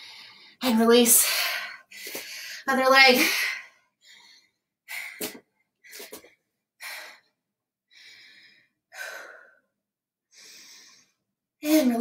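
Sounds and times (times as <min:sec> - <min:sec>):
woman breathing hard: 0:00.0 - 0:00.6, 0:01.2 - 0:11.3.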